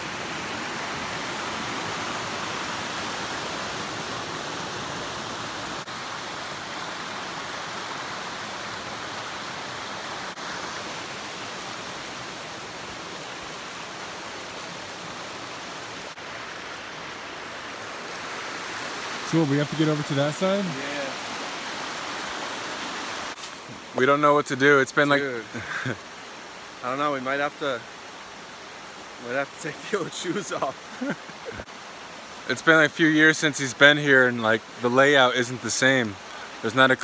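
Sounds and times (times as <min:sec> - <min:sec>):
creek rushing over rocks: 0:00.0 - 0:37.0.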